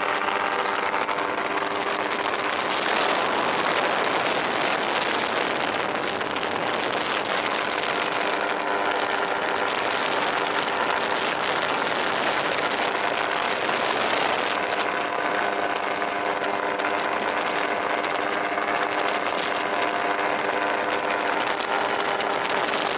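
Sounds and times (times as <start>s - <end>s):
aircraft engine and propeller: 0.0s - 22.9s
wind rushing over microphone: 0.0s - 22.9s.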